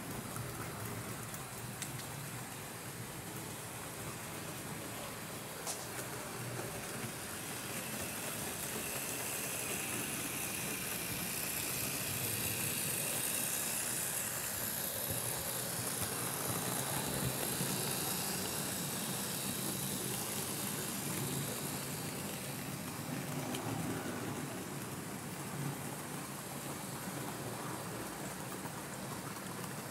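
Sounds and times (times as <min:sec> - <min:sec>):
model train running on rails: 0:00.0 - 0:29.9.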